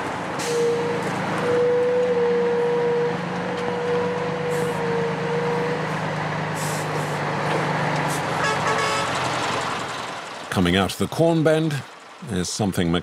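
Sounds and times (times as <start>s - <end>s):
high engine whine: 0.0s - 11.1s
truck engine low hum: 0.0s - 13.0s.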